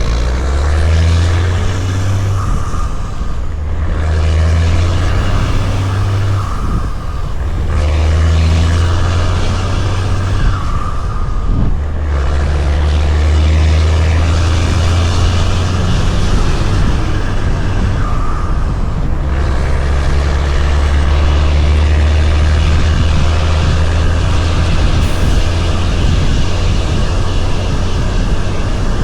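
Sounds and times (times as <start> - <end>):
road noise: 0.0 - 29.0
truck diesel engine drone: 0.0 - 29.0.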